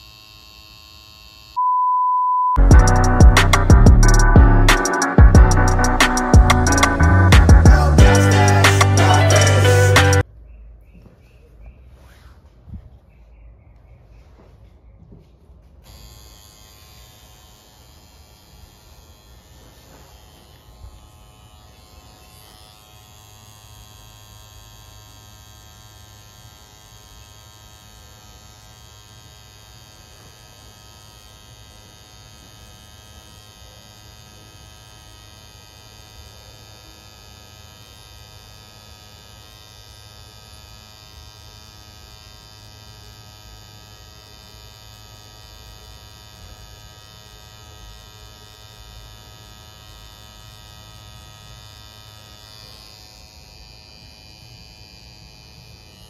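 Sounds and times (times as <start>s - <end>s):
tattoo machine buzzing: 0.0s - 1.6s, 2.6s - 10.2s, 15.8s - 56.0s.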